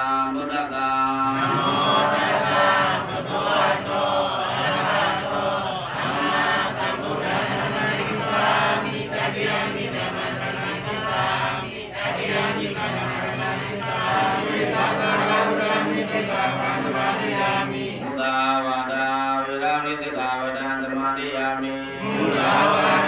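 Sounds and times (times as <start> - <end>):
group of voices chanting: 1.2 - 19.0, 21.6 - 23.0.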